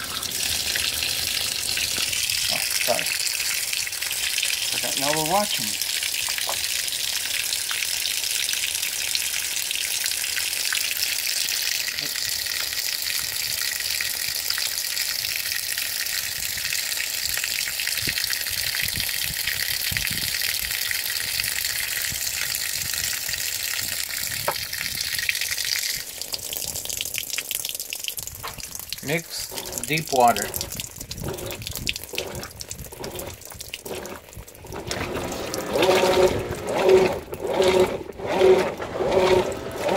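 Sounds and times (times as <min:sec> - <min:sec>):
water pouring onto laundry: 0:00.0 - 0:39.9.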